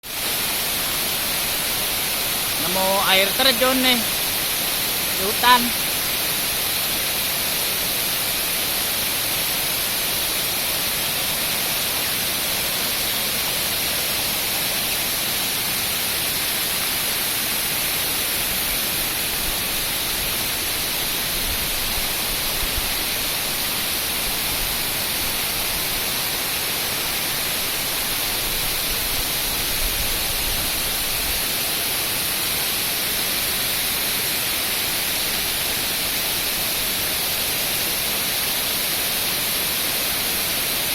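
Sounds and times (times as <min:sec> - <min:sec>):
waterfall splashing: 0:00.0 - 0:40.9.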